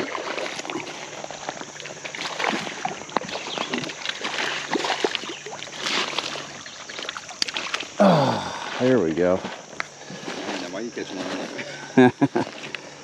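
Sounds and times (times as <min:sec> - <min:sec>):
small water splashes: 0:00.0 - 0:08.8, 0:09.5 - 0:11.6
creek water sloshing and gurgling: 0:00.0 - 0:13.0.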